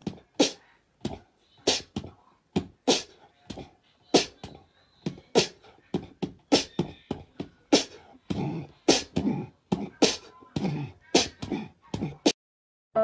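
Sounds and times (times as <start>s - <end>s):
beatboxing: 0.0s - 12.4s.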